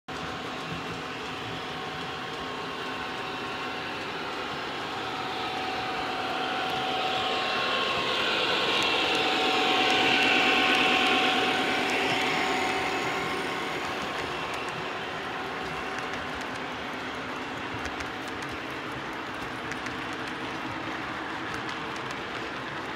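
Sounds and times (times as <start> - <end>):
model train whine: 0.1 - 22.9
wheels clicking on rail: 0.1 - 22.9.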